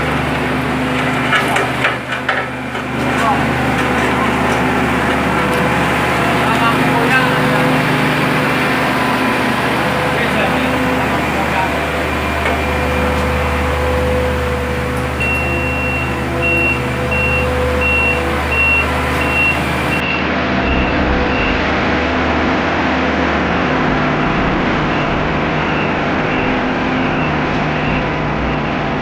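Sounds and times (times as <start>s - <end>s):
paving machinery engines: 0.0s - 29.0s
reversing alarm beeping: 1.4s - 22.3s, 23.4s - 29.0s.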